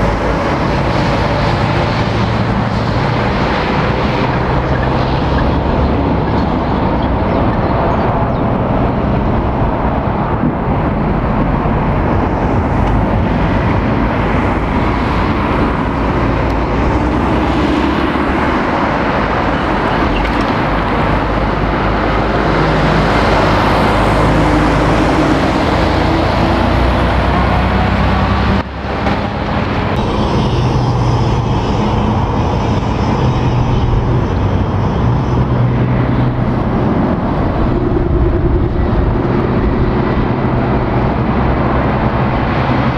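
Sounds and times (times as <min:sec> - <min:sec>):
lorry diesel engines: 0:00.0 - 0:42.9.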